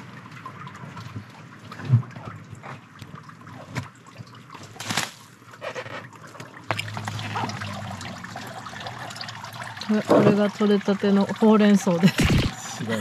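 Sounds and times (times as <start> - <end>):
low steady hum: 0.0 - 13.0
water trickling and splashing: 0.0 - 13.0.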